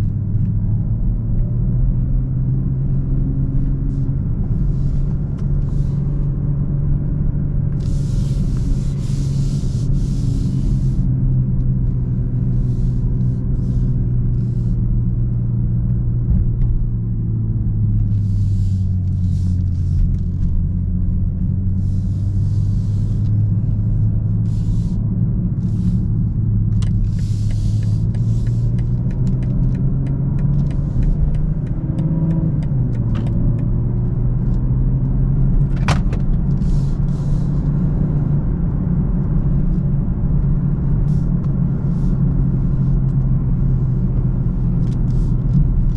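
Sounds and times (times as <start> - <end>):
car engine drone: 0.0 - 45.9
road noise hisses: 2.8 - 15.2, 17.2 - 34.1, 35.7 - 45.9.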